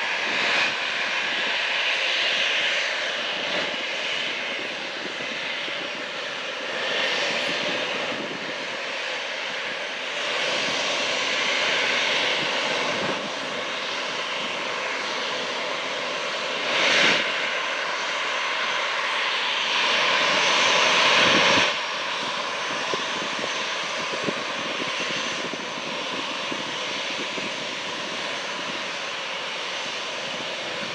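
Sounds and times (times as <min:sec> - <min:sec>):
aircraft engines running: 0:00.0 - 0:30.9.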